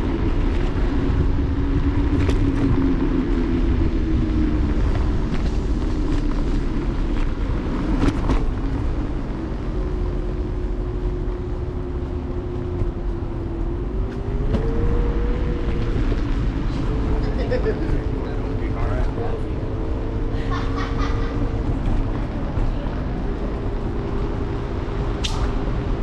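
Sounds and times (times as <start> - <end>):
electric scooter motor hum: 0.0 - 26.0
road and wind rumble: 0.0 - 26.0.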